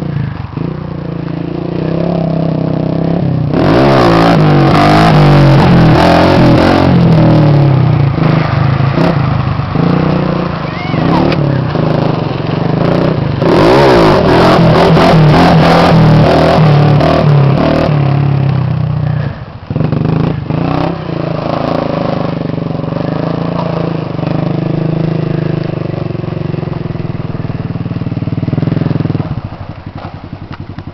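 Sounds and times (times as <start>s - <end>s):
quad engine revving: 0.0s - 30.2s.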